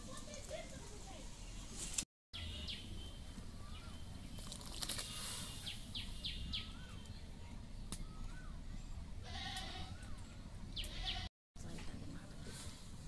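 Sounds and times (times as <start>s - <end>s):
birds chirping: 0.3s - 11.3s.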